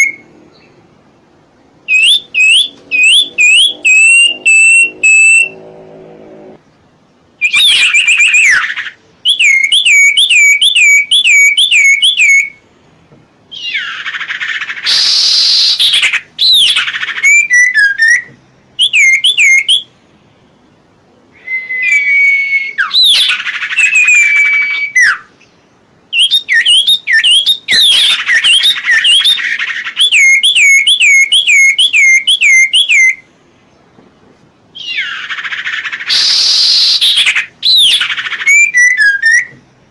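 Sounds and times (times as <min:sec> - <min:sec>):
songbird singing: 0:00.0 - 0:34.0, 0:34.6 - 0:39.9.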